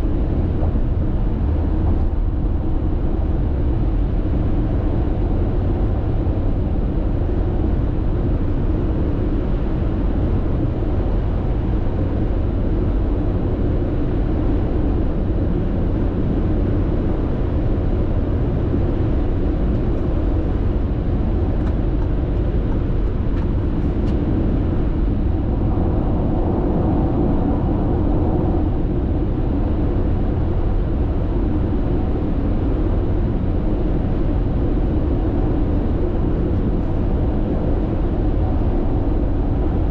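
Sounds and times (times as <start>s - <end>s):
tyre road noise: 0.0s - 12.9s, 17.5s - 39.9s
low engine hum: 0.0s - 39.9s.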